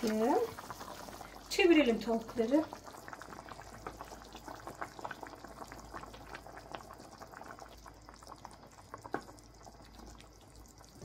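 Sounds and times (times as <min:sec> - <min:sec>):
sauce bubbles popping: 0:00.0 - 0:11.0.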